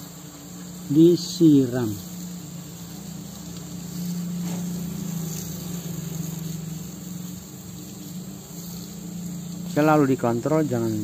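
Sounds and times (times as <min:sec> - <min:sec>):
steady low hum: 0:00.0 - 0:11.0
water splashing on charcoal: 0:00.0 - 0:11.0.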